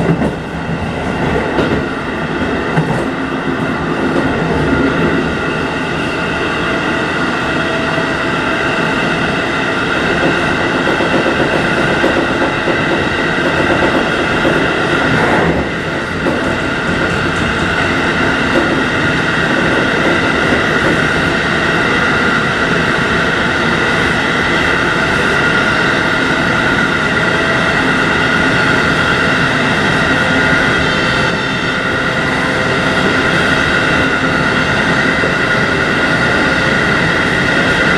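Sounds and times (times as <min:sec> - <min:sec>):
electric train running: 0:00.0 - 0:37.9.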